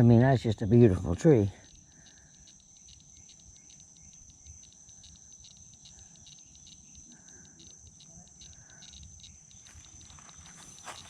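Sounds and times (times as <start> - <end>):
insects droning: 0.0 - 11.0
rapid pulsing insect chirp: 0.0 - 11.0.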